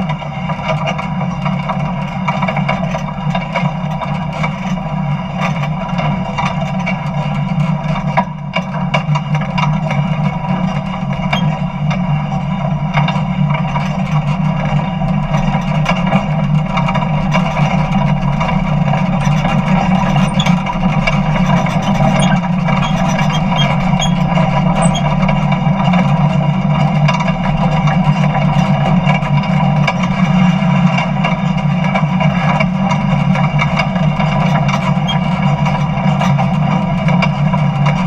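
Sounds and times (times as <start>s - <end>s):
jet engine idling with whine: 0.0s - 38.0s.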